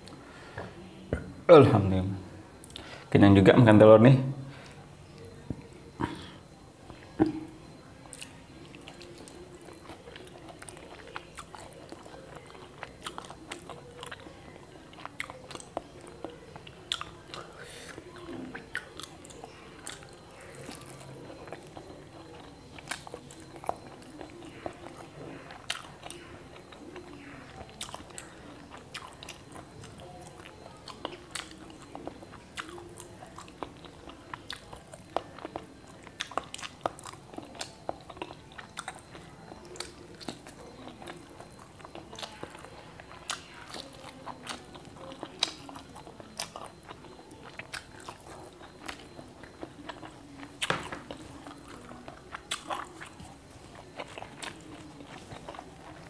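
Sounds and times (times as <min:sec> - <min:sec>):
person chewing food: 0:04.6 - 0:56.0.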